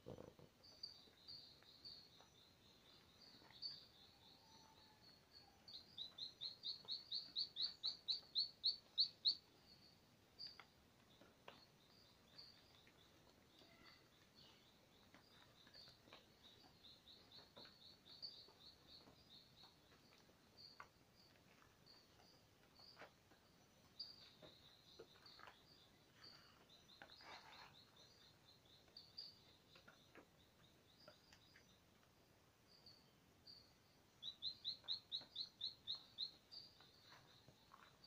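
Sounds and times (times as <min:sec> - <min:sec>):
faint bird chirping: 0:00.0 - 0:38.0.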